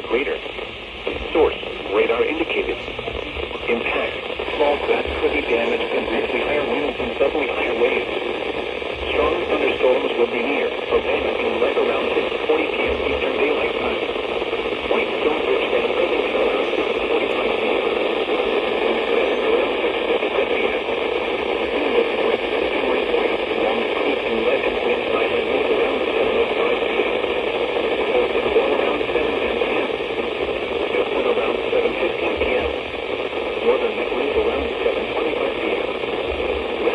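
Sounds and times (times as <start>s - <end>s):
radio static hiss: 0.0s - 36.9s.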